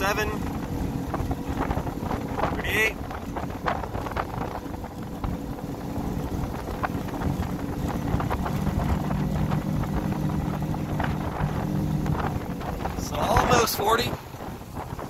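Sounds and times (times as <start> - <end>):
outboard engine running: 0.0 - 15.0
wind on microphone: 0.0 - 15.0.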